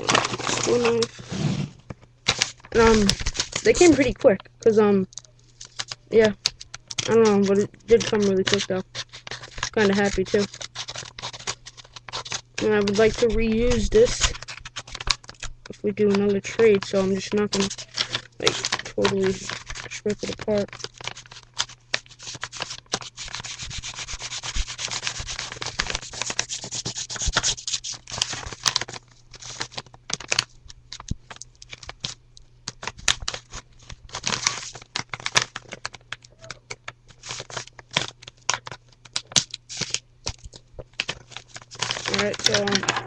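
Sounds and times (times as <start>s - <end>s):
scraping and rubbing on packaging: 0.0s - 4.1s, 5.5s - 36.1s, 37.1s - 43.0s
sharp clicks and crinkles: 1.9s - 23.4s, 27.2s - 43.0s.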